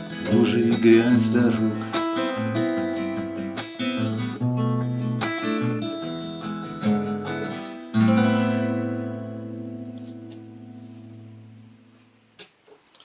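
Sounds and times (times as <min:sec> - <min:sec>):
acoustic guitar chords: 0:00.0 - 0:12.3.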